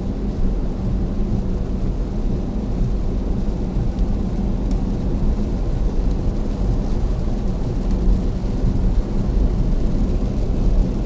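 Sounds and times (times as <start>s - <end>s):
heavy rain on a car: 0.0s - 11.0s
tyres on wet road rumble: 0.1s - 11.0s.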